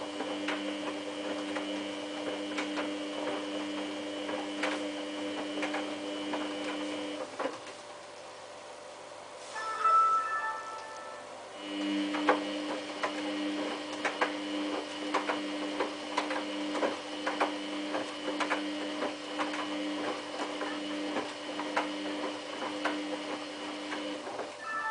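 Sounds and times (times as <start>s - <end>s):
washing machine hum: 0.0s - 24.9s.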